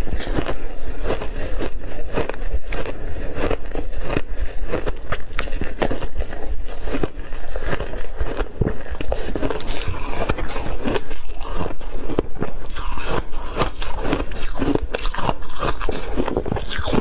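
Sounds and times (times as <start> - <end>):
crunching and chewing ice: 0.0 - 17.0.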